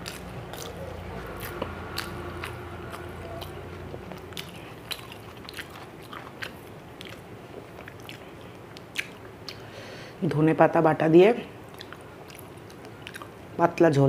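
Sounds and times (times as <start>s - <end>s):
chewing rice: 0.0s - 9.7s, 11.7s - 13.5s
wet mouth clicks and smacks: 0.0s - 9.7s, 11.7s - 13.4s.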